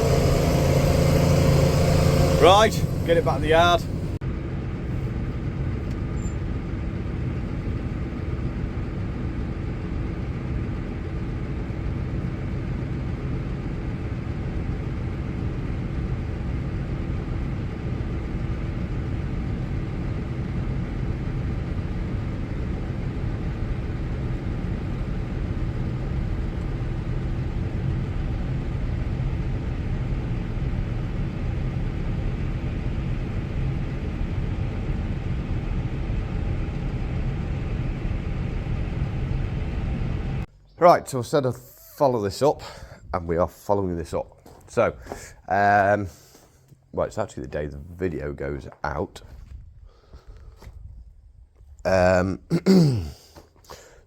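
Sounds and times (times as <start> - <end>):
tractor engine humming: 0.0 - 47.8.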